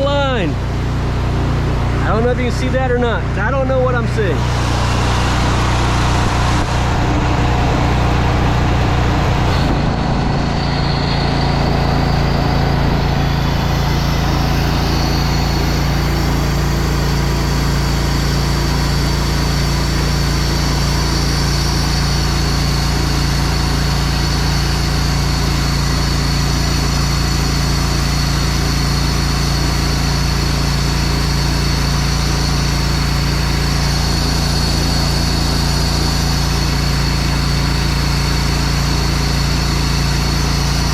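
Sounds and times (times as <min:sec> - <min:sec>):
pressure washer engine running: 0:00.0 - 0:40.9
steady high whine: 0:00.0 - 0:40.9.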